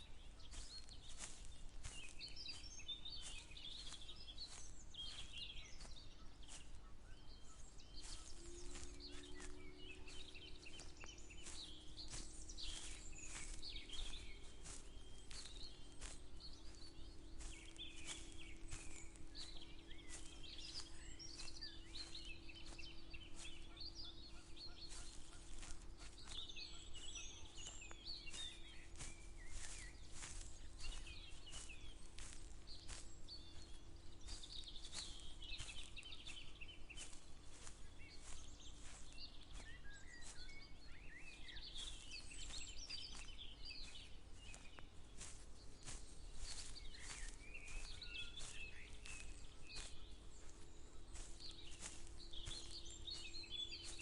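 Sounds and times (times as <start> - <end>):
footsteps walking: 0.0 - 54.0
songbirds chirping and trilling: 0.0 - 54.0.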